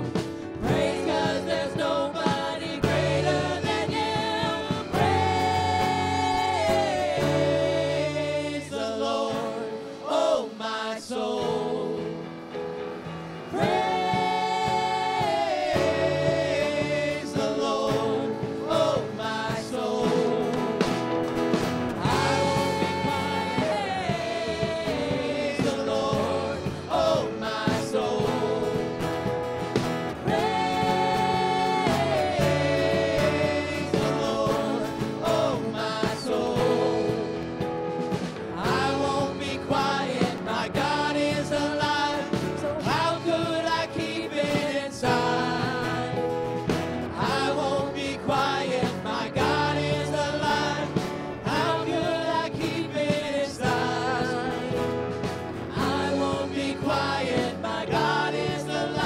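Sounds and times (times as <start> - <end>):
instrumental accompaniment: 0.0 - 10.6, 11.4 - 59.0
voices singing gospel song: 0.0 - 59.0.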